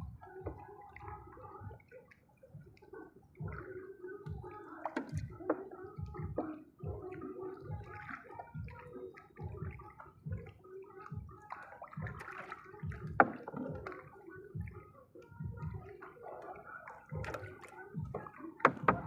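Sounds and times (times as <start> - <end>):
water sloshing and gurgling: 0.0 - 19.0.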